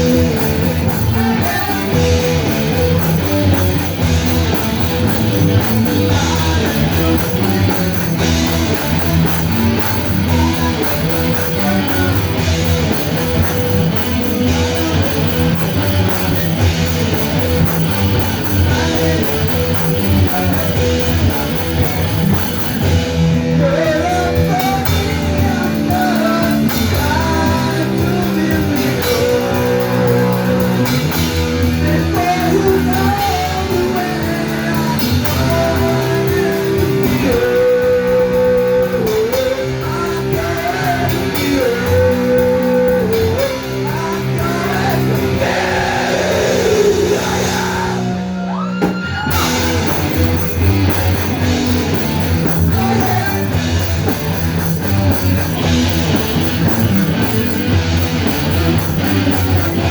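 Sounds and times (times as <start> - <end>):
drum kit: 0.0 - 59.9
electric guitars: 0.0 - 59.9
person singing: 0.0 - 59.9.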